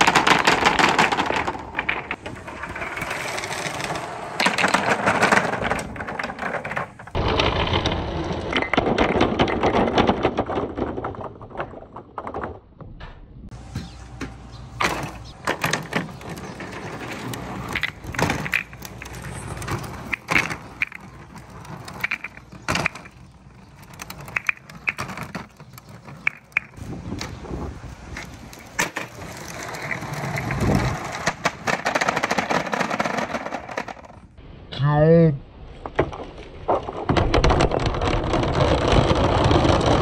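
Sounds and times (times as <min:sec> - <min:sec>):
billiard balls rolling and clacking: 0:00.0 - 0:27.4, 0:28.0 - 0:34.4, 0:35.8 - 0:40.0.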